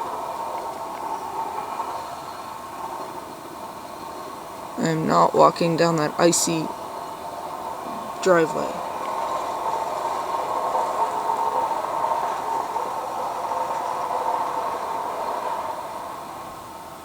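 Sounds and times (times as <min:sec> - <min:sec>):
distant road work machine drone: 0:00.0 - 0:17.0.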